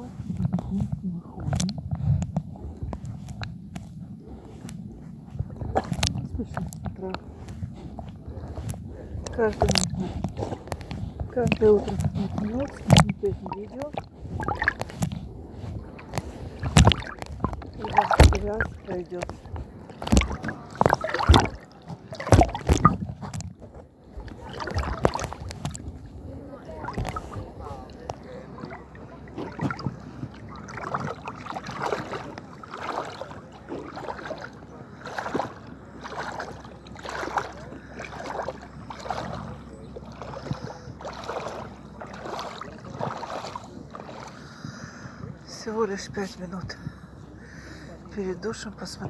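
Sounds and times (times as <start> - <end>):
water splashing from wading: 0.0 - 49.0.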